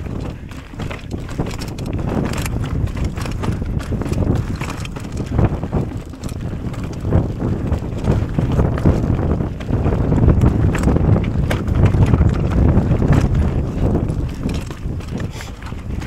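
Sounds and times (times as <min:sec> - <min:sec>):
bike rattling: 0:00.0 - 0:16.0
wind buffeting microphone: 0:00.0 - 0:16.0.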